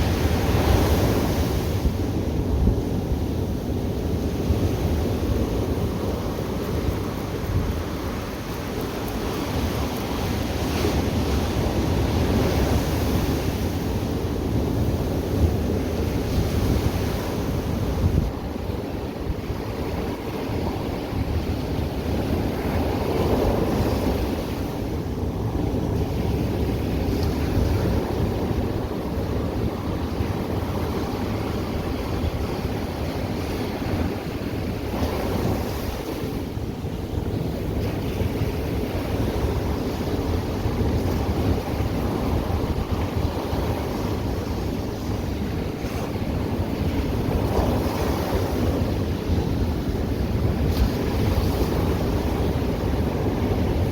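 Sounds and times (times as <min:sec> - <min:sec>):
ocean surf washing ashore: 0:00.0 - 0:53.9
wind buffeting microphone: 0:00.0 - 0:53.9.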